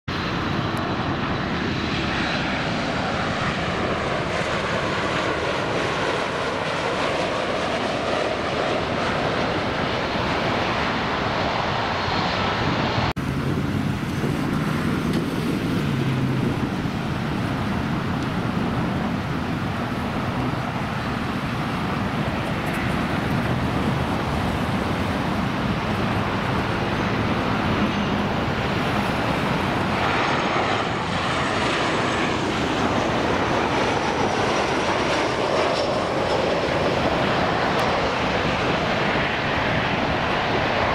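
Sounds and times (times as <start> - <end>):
jet airliner engine noise: 0.1 - 40.9.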